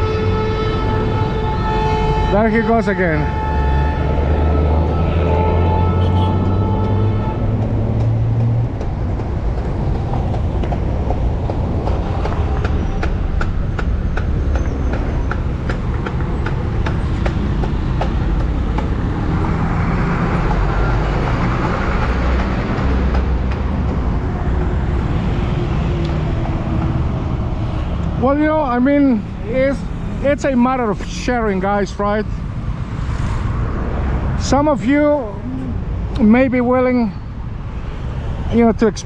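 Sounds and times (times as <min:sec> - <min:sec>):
traffic engines rumbling: 0:00.0 - 0:39.0.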